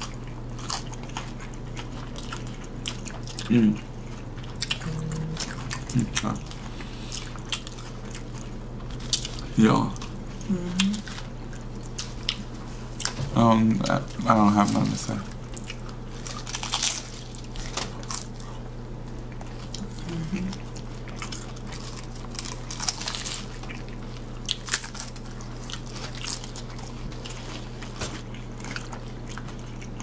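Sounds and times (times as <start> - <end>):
crunching taco shells: 0.0 - 4.8, 5.4 - 10.2, 13.9 - 19.9, 20.5 - 30.0
steady low hum: 0.0 - 30.0.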